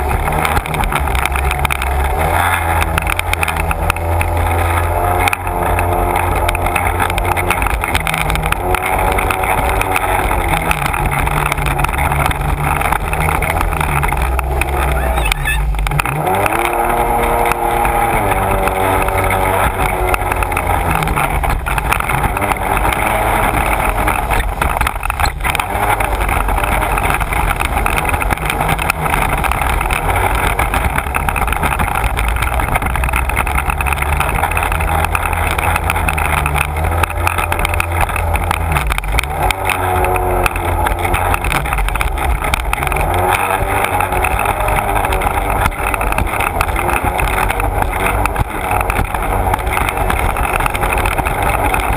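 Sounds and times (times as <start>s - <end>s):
watercraft engine running: 0.0s - 51.9s.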